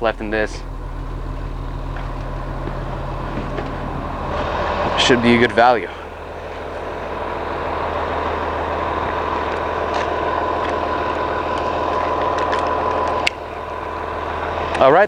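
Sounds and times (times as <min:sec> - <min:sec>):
bus diesel engine idling: 0:00.0 - 0:15.0
engine whine: 0:00.0 - 0:15.0.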